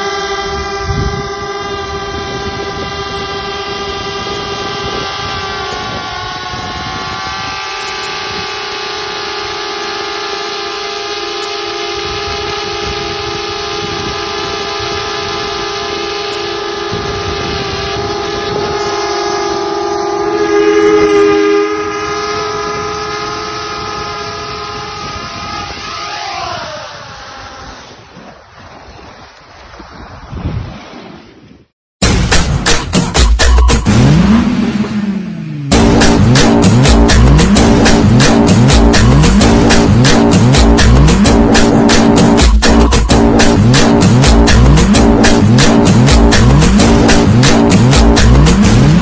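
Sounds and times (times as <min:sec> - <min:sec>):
drone propellers whining: 0:00.0 - 0:28.1, 0:32.8 - 0:49.0.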